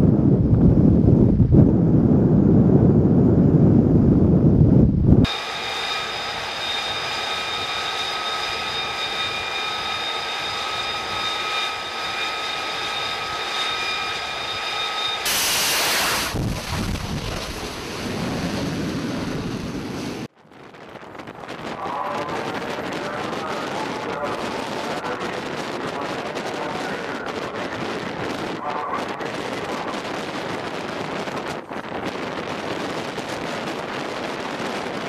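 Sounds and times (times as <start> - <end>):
jet engine turbine whine: 0.1 - 35.0
jet blast roar: 1.6 - 35.0.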